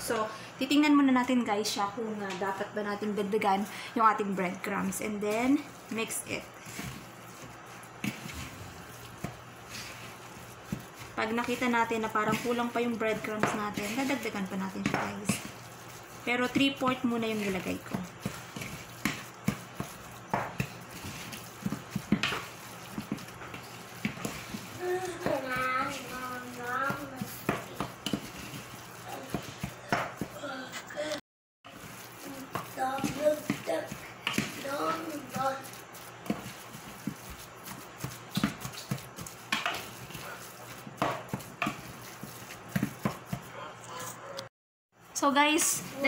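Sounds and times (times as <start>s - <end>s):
wooden spatula scraping bowl: 2.4s - 30.8s, 31.7s - 44.2s, 45.0s - 46.0s
hand kneading wet meat: 4.6s - 30.5s, 31.7s - 43.6s.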